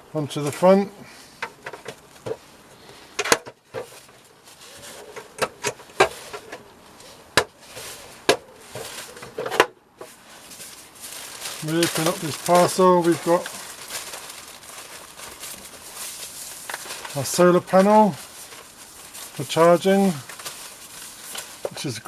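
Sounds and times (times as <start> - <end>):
plastic rustling: 0.2 - 22.0.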